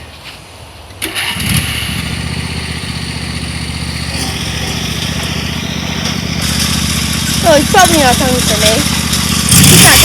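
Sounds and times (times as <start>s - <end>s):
small tractor engine running: 1.2s - 10.0s.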